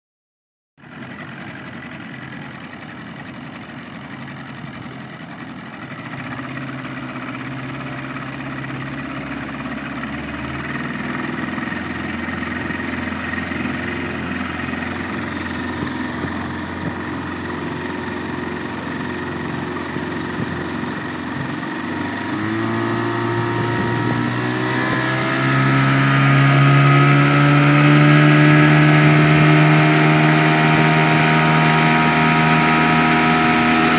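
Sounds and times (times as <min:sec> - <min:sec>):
outboard motor running: 0:00.8 - 0:33.9
wind and water rushing: 0:00.9 - 0:33.9.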